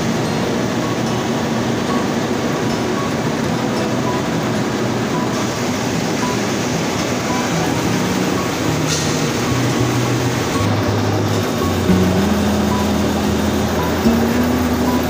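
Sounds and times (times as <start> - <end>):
factory machinery running: 0.0 - 15.0.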